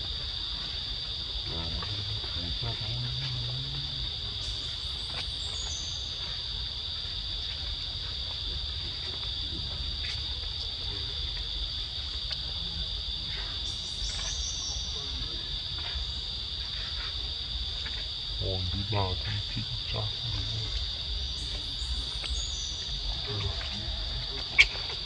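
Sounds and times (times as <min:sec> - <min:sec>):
high-pitched insect drone: 0:00.0 - 0:11.3, 0:12.2 - 0:25.0.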